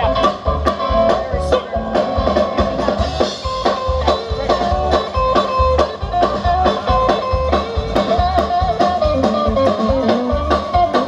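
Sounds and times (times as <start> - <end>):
drum kit beat: 0.0 - 11.0
guitars strumming: 0.0 - 11.0.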